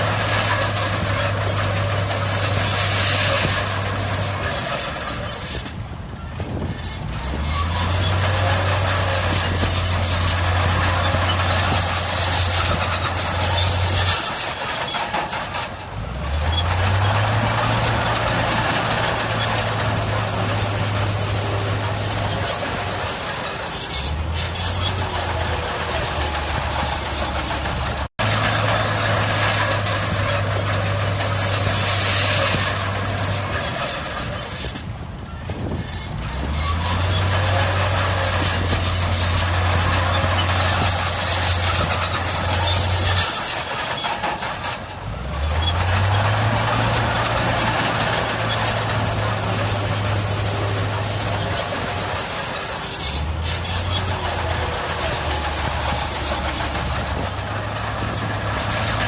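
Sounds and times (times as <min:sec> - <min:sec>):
diesel engine under load: 0:00.0 - 0:59.0
machinery clatter and hiss: 0:00.0 - 0:59.0.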